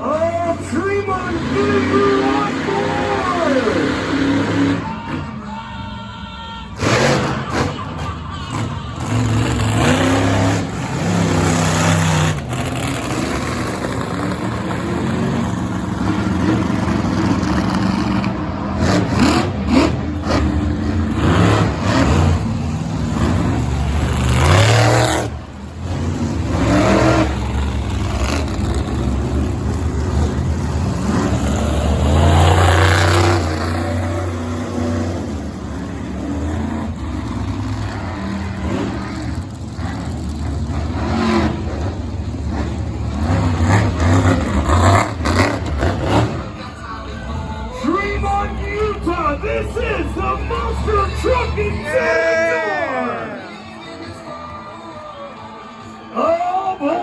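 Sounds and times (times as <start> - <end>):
truck engine revving: 0.0 - 5.9, 6.6 - 57.0.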